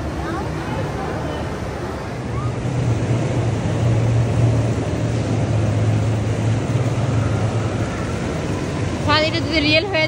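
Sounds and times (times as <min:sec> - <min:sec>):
busy background noise: 0:00.0 - 0:10.0.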